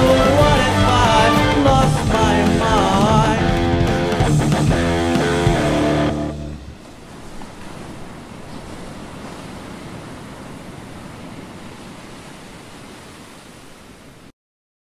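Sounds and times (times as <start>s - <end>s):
ocean waves and surf: 0.0s - 14.3s.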